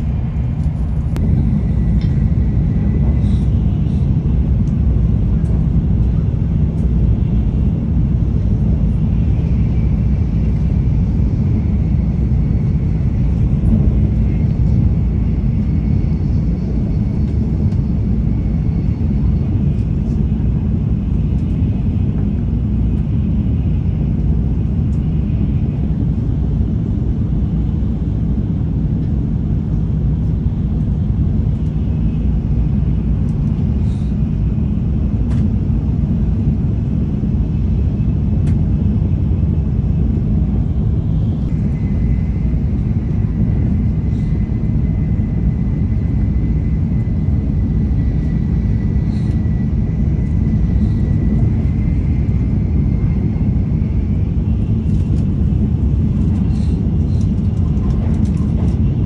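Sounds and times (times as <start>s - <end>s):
train rumble inside carriage: 0.0s - 59.0s.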